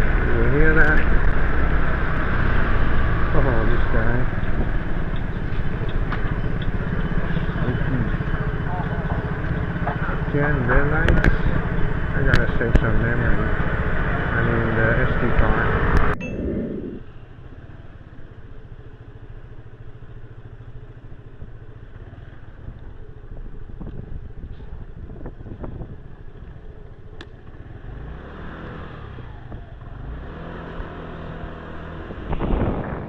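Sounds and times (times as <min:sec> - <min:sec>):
motorbike engine: 0:00.0 - 0:33.0.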